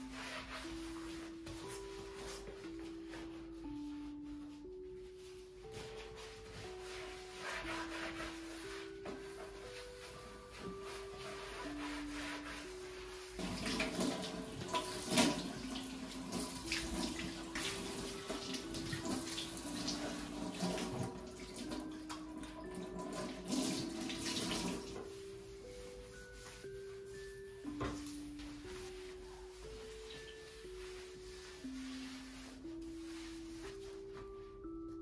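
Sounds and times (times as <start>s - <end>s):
soft background music: 0.0s - 35.0s.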